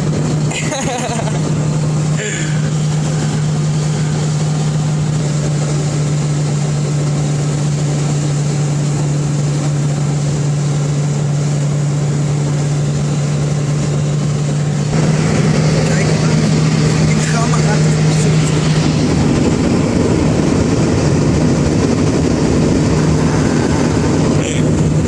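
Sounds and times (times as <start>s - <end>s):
car engine droning: 0.0s - 25.0s
road and wind noise: 0.0s - 25.0s.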